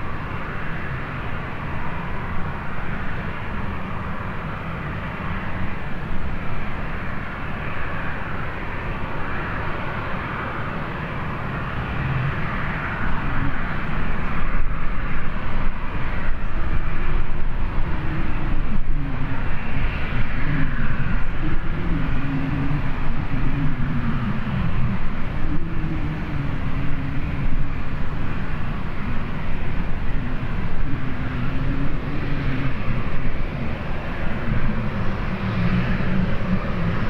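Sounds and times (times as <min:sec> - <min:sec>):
distant jet engines rushing: 0:00.0 - 0:37.0
wind buffeting microphone: 0:00.0 - 0:37.0.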